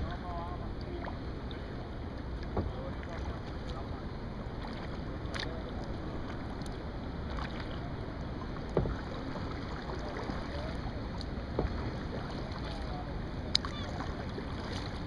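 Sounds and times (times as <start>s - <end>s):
steady low rumble: 0.0s - 15.0s
water lapping against kayak hull: 0.0s - 15.0s.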